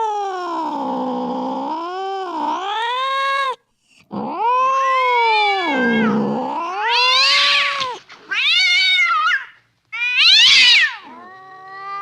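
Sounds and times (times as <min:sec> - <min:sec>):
cat yowling: 0:00.0 - 0:12.0.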